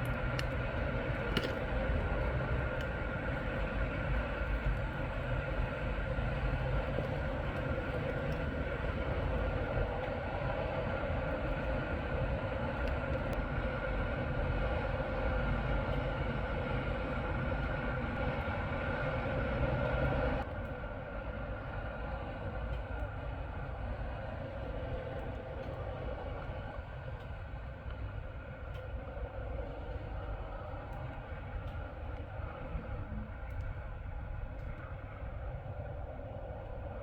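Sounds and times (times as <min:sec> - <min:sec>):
vehicle and road rumble: 0:00.0 - 0:37.0.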